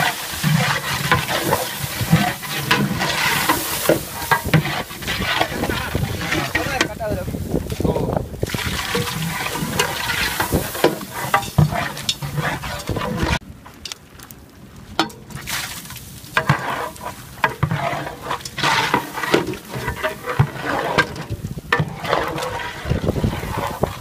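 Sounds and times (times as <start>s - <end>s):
metal ladle stirring and knocking: 0.0s - 7.8s, 8.4s - 13.4s, 16.4s - 24.0s.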